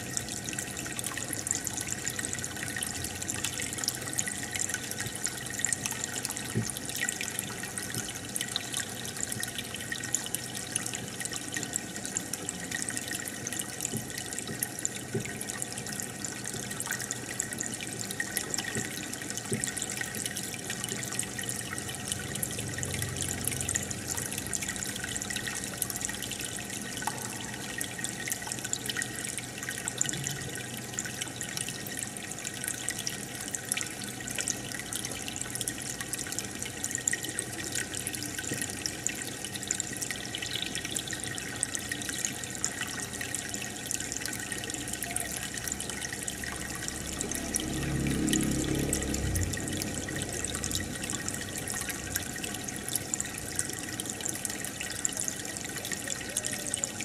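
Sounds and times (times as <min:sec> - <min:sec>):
aquarium water bubbling: 0:00.0 - 0:57.0.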